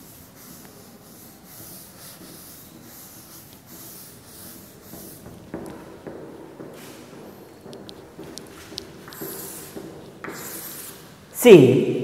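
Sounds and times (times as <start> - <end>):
duster wiping chalkboard: 0.0 - 11.3.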